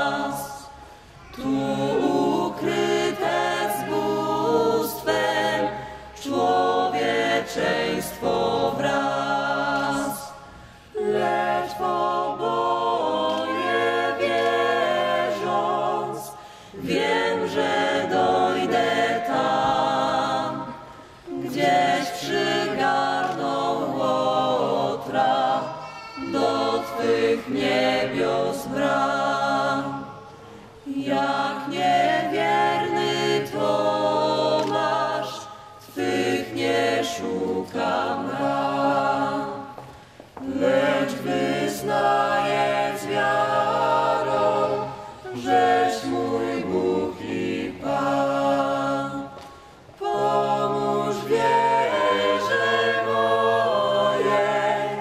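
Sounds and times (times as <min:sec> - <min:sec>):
vocal ensemble singing a cappella: 0:00.0 - 0:55.0.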